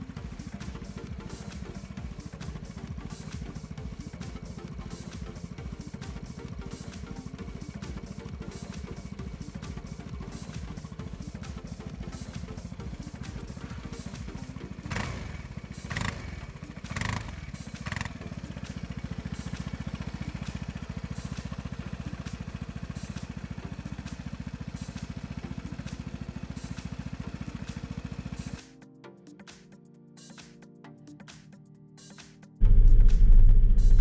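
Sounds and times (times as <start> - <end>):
scooter engine idling: 0.0 - 28.6
scooter engine throttle blips: 0.0 - 28.6.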